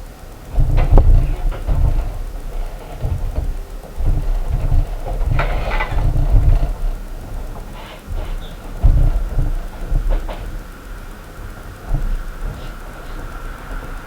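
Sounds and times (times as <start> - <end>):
deep thuds from floor above: 0.5 - 10.7, 11.5 - 14.0.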